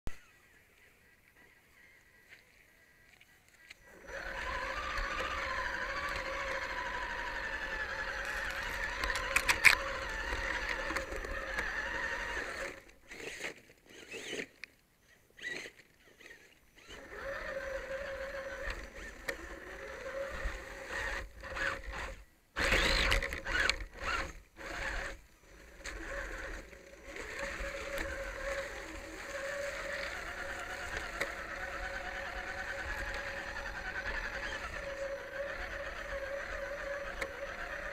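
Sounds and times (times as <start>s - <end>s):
toy truck electric motors whining: 3.7s - 14.7s, 15.3s - 37.9s.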